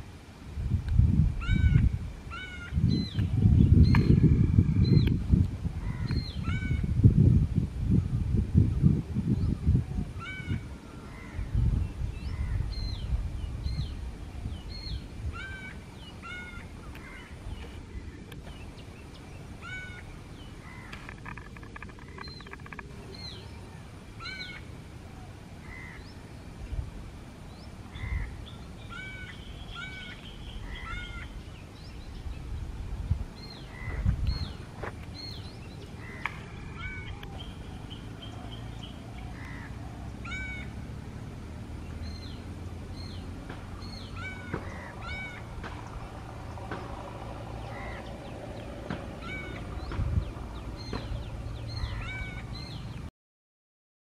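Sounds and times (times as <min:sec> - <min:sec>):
low rumble in gusts: 0:00.0 - 0:53.1
birds chirping: 0:01.4 - 0:06.9, 0:08.8 - 0:53.1.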